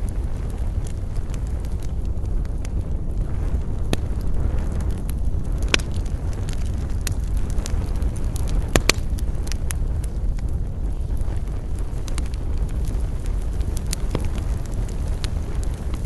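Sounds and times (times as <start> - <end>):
campfire crackling and popping: 0.0 - 16.0
low rumble: 0.0 - 16.0.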